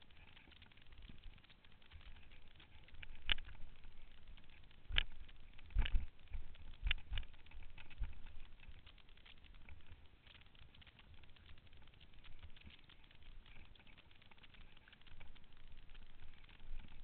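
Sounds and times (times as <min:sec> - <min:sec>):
bike tyres crackling over gravel: 0:00.0 - 0:17.0.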